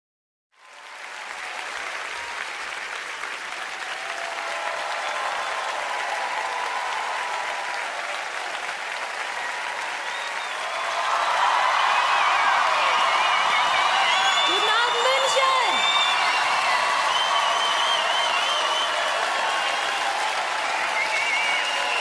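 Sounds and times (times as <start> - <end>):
audience applauding: 0.6 - 22.0.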